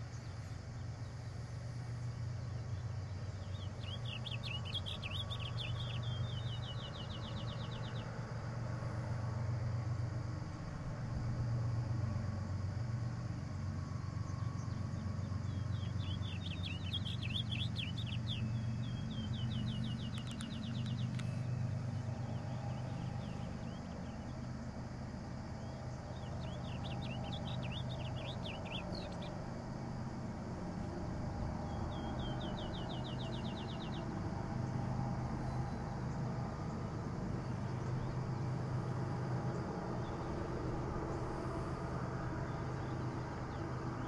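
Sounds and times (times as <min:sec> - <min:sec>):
songbirds singing with trills: 0:00.0 - 0:44.0.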